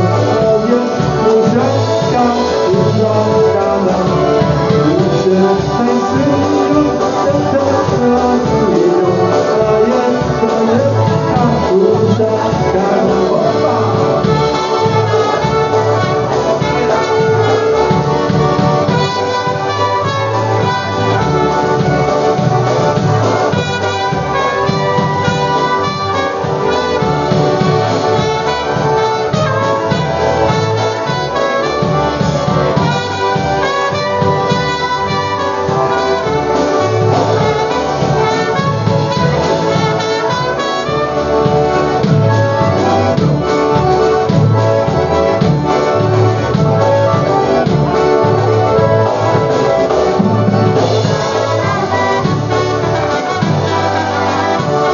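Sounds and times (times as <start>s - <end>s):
horns playing melody: 0.0s - 54.9s
polka band playing: 0.0s - 54.9s.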